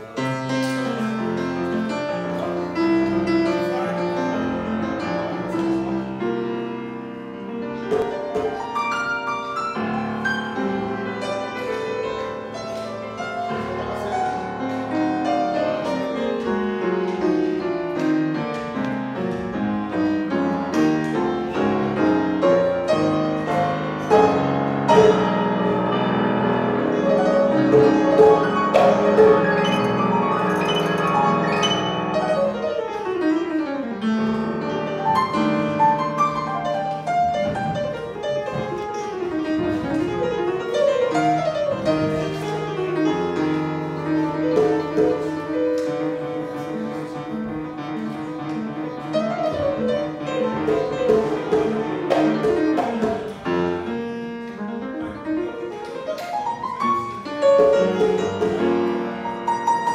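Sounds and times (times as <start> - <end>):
solo piano runs: 0.0 - 59.9.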